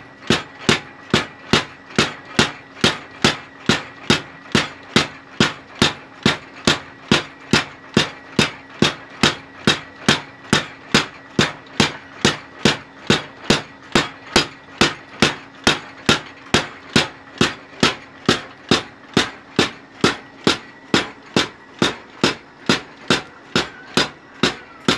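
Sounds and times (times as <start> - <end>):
motor hum: 0.0 - 24.9
power hammer pounding metal: 0.0 - 24.9.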